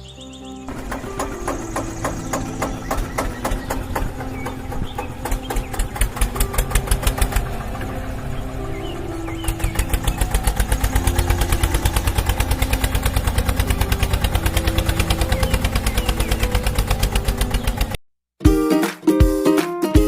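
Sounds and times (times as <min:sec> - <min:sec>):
faint background music: 0:00.0 - 0:17.9
small engine idling: 0:00.6 - 0:18.0.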